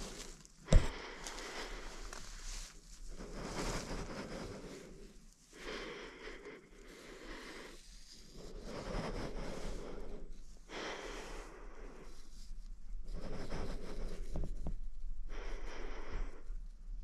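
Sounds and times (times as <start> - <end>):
person breathing heavily: 0.0 - 14.6, 15.2 - 16.7.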